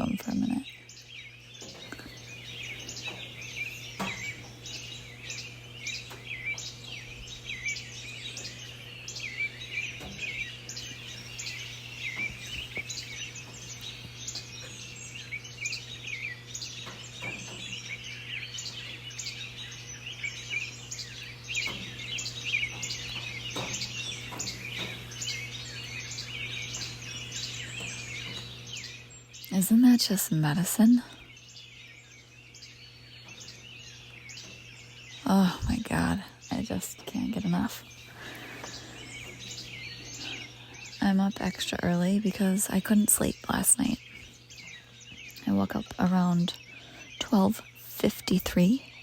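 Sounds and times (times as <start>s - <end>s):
birds singing and chirping: 0.0s - 49.0s
steady low hum: 0.0s - 49.0s.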